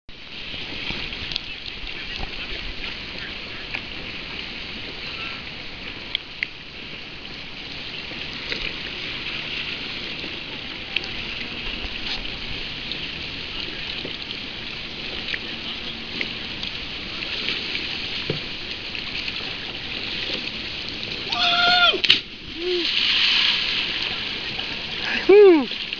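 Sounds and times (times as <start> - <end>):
small waves hissing: 0.1 - 25.9
water lapping against kayak hull: 0.1 - 25.9.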